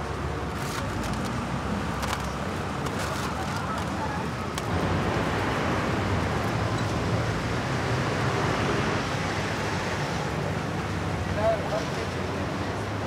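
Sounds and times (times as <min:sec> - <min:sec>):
rush of traffic noise: 0:00.0 - 0:13.0.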